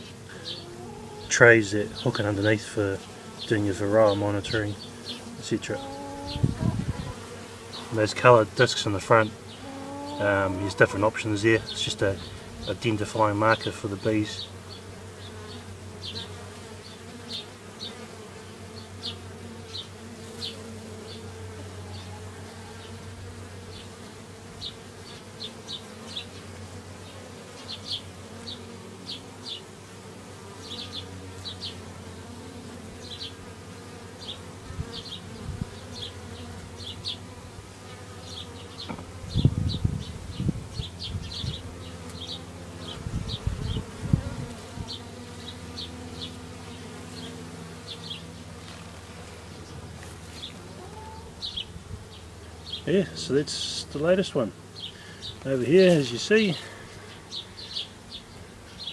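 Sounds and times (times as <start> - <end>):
bees humming: 0.0 - 58.9.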